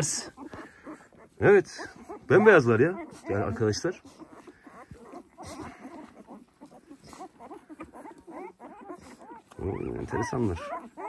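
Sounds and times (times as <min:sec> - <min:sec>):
puppies squeaking and whimpering: 0:00.0 - 0:11.0.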